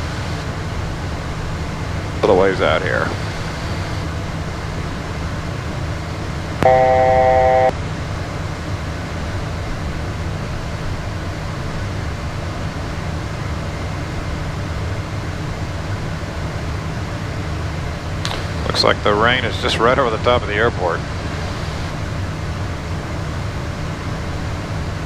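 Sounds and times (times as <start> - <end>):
jet cockpit hum: 0.0 - 11.0, 15.2 - 25.0.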